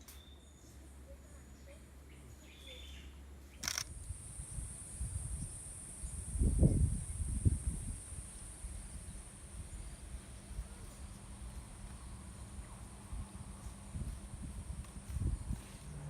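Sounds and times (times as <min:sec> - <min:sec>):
jungle insects droning: 0:02.4 - 0:16.0.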